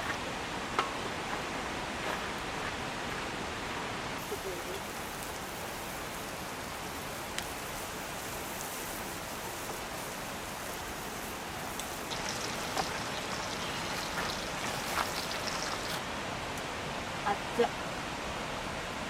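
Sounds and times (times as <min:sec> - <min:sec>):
forest stream rushing: 0:00.0 - 0:19.0.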